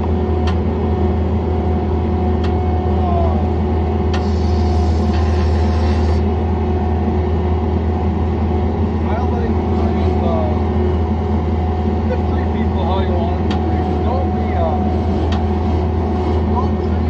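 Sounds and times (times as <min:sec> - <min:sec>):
skid loader engine running: 0:00.0 - 0:17.0.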